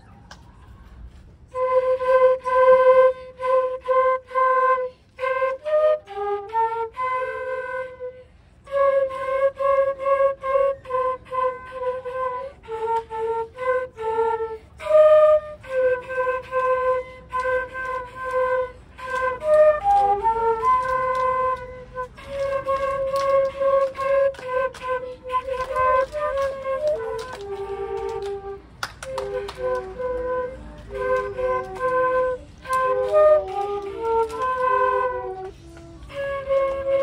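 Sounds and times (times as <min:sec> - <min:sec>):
children playing flutes: 0:00.0 - 0:37.0.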